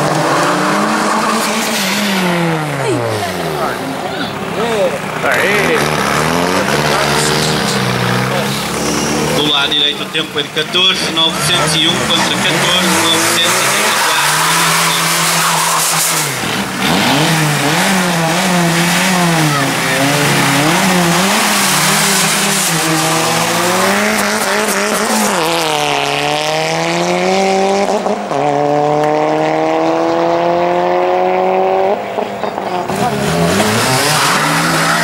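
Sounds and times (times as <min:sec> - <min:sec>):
car engine revving and accelerating: 0:00.0 - 0:35.0.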